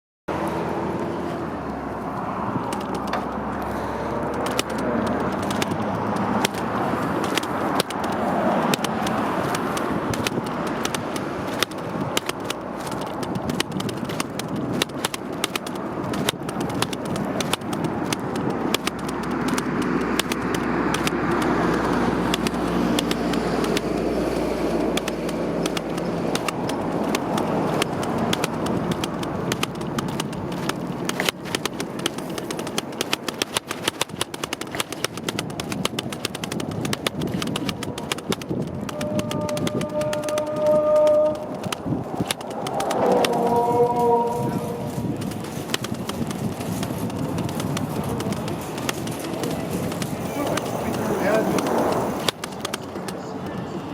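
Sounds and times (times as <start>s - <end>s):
road rumble: 0.3s - 53.9s
wind rush while riding: 0.3s - 53.9s
loose parts clicking and rattling: 0.4s - 53.6s.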